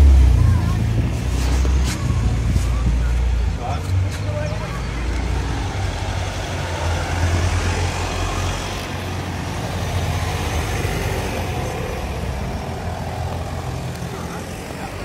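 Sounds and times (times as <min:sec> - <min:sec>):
street noise: 0:00.0 - 0:15.0
vehicle engine rumbling: 0:00.0 - 0:15.0.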